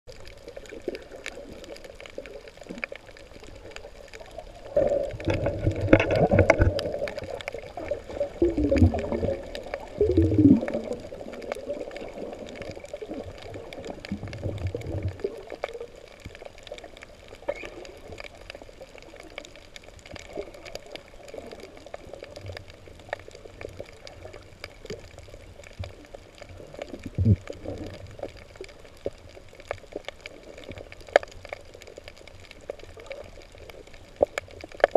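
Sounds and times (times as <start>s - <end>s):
muffled underwater sloshing: 0.1s - 34.9s.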